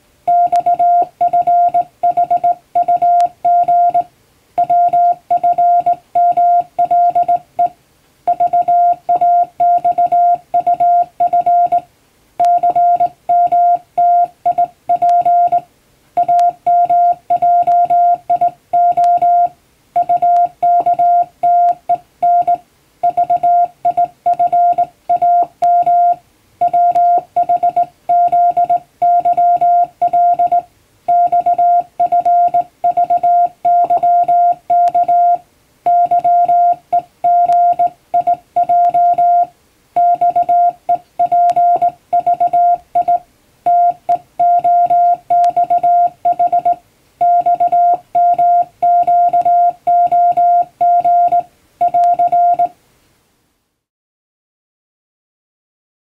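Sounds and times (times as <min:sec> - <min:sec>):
morse code beeps: 0:00.3 - 0:52.7.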